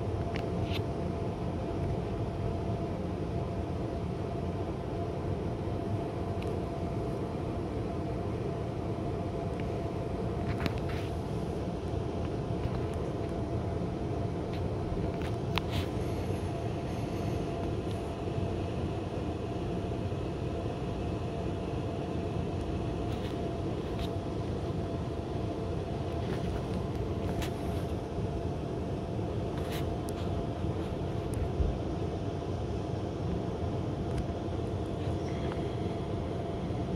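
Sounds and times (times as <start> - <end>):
air conditioner droning: 0.0 - 36.9.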